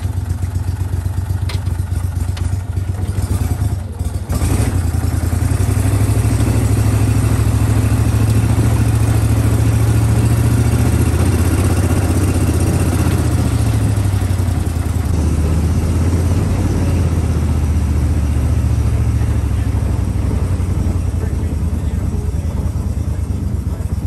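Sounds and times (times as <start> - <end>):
boat motor droning: 0.0 - 24.0.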